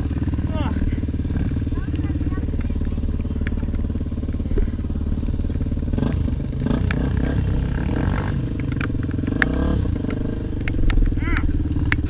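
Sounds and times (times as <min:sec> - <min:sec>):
vehicle engine running low revs: 0:00.0 - 0:12.0.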